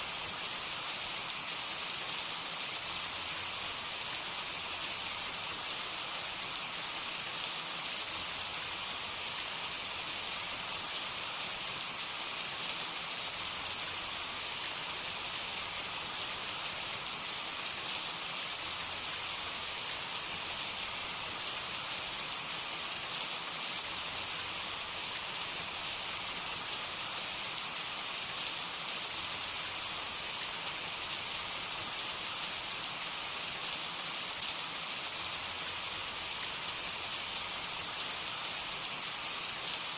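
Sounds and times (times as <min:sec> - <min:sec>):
hot oil sizzling and crackling: 0:00.0 - 0:39.9.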